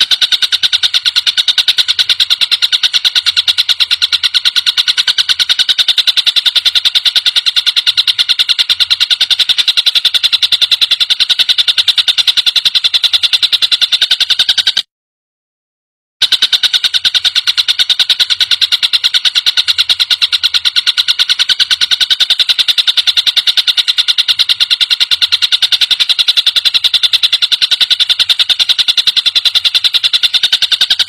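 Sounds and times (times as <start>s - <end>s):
kingfisher rapid rattling call: 0.0s - 14.9s, 16.2s - 31.0s.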